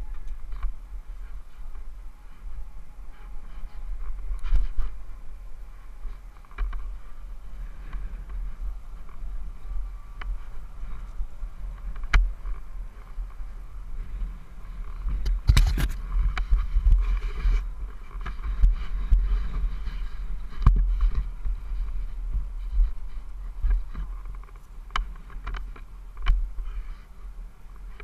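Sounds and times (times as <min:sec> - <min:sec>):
rustles: 0:00.0 - 0:28.0
wind buffeting microphone: 0:00.0 - 0:28.0.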